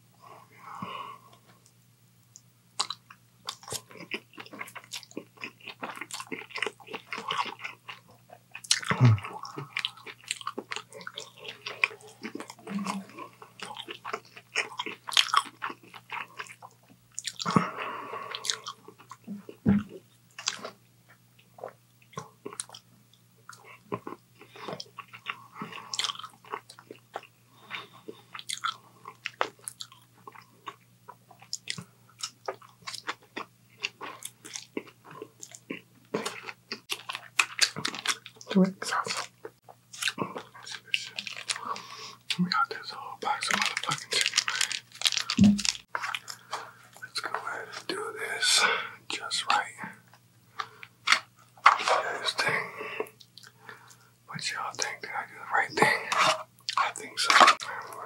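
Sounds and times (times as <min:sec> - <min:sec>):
man chewing food: 0:00.7 - 0:58.0.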